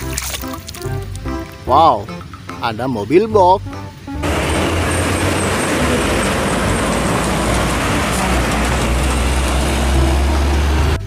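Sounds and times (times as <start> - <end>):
road and traffic noise: 0.0 - 11.0
truck diesel engine rumble: 0.8 - 11.0.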